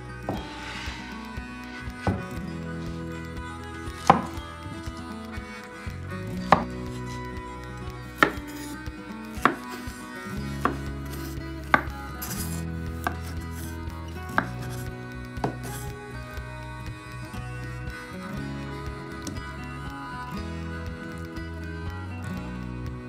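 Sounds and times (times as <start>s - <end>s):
soft background music: 0.0s - 23.0s.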